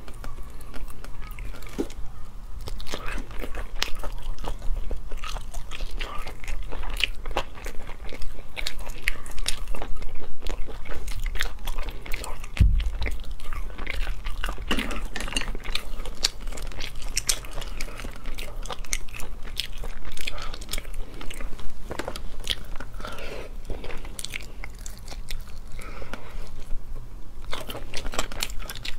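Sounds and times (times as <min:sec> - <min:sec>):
chewing: 0:00.0 - 0:28.9.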